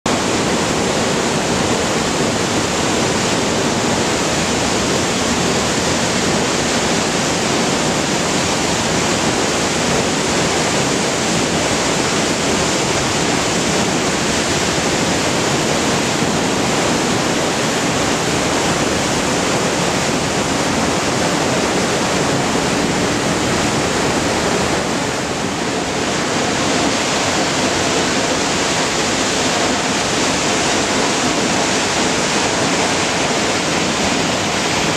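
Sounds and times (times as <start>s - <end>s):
waterfall rushing onto rocks: 0.1s - 34.9s.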